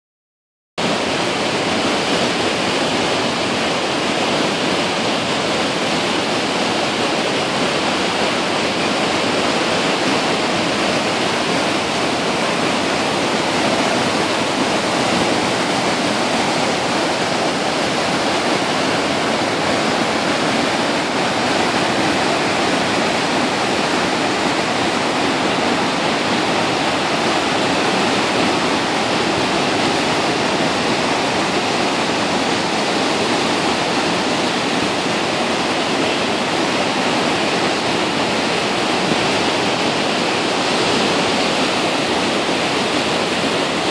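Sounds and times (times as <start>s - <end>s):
river rapids rushing: 0.8s - 43.9s.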